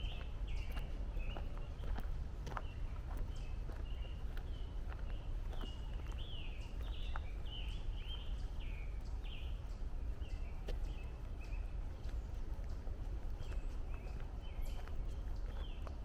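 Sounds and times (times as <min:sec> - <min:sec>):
footsteps on trail: 0:00.0 - 0:16.0.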